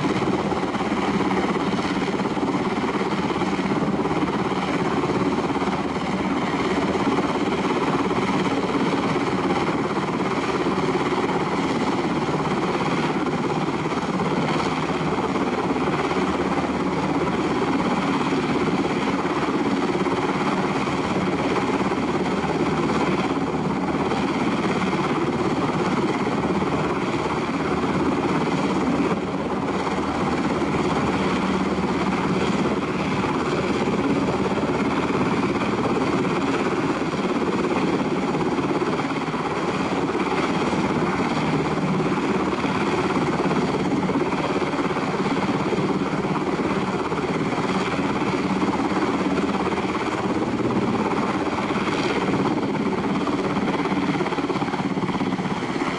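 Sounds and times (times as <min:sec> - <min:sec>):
helicopter rotor and turbine noise: 0:00.0 - 0:55.9.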